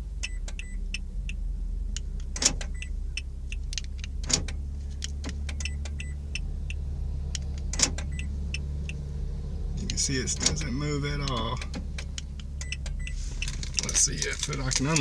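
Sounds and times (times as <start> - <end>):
car low hum: 0.0 - 15.0.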